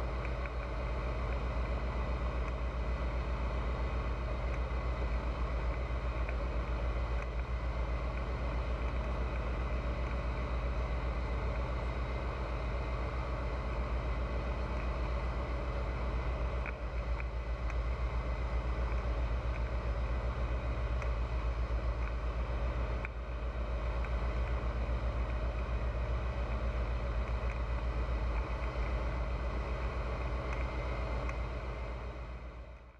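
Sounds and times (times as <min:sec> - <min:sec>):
light aircraft engine and propeller: 0:00.0 - 0:32.9.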